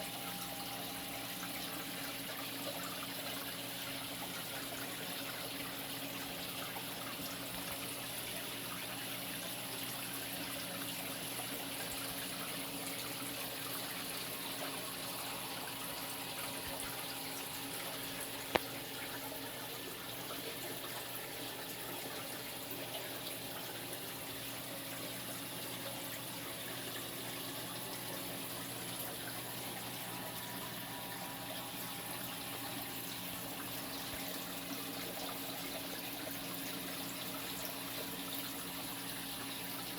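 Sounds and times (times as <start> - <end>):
aquarium water trickling: 0.0 - 39.9
low pump hum: 0.0 - 39.9.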